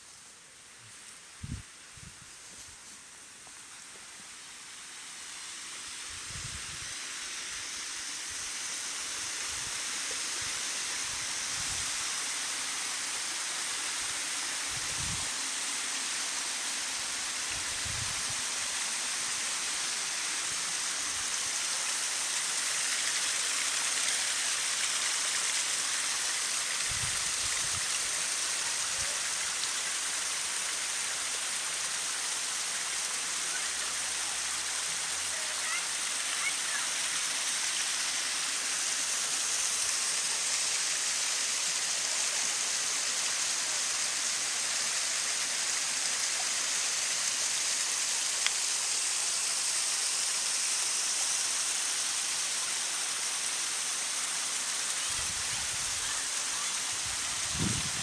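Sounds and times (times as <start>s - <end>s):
waterfall rushing: 8.9s - 58.0s.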